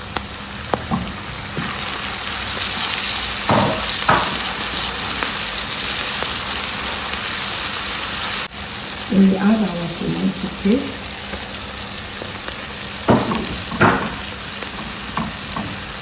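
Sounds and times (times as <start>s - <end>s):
onions frying in hot oil: 0.0s - 16.0s.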